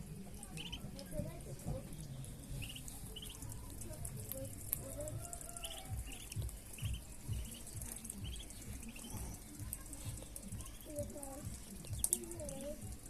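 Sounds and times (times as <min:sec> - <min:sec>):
chicks peeping: 0:00.2 - 0:13.0
rain hissing and ticking: 0:00.9 - 0:13.0.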